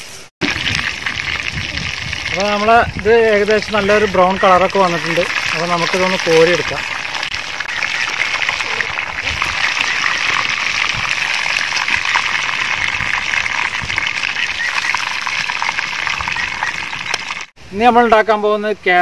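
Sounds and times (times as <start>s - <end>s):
chicken deep-frying in oil: 0.0s - 17.6s.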